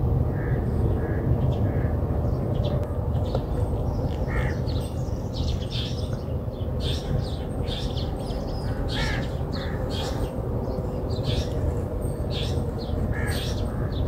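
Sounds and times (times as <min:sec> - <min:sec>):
steady low rumble: 0:00.0 - 0:14.0
birds chirping: 0:00.3 - 0:14.0.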